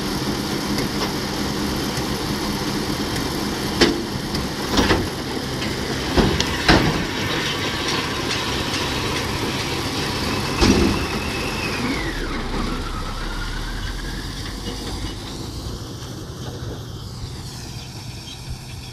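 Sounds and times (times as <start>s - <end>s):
tractor engine under load: 0.0s - 18.9s.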